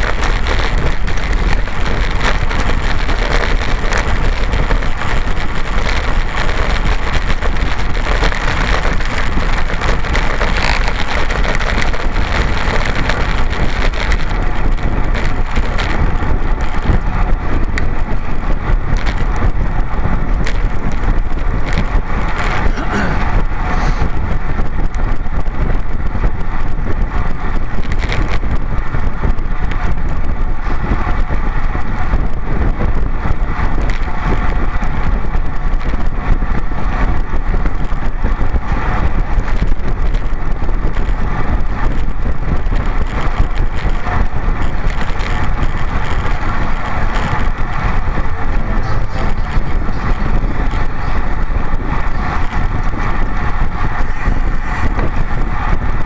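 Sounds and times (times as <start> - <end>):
bicycle tyre road noise: 0.0 - 56.0
wind rushing on microphone: 0.0 - 56.0.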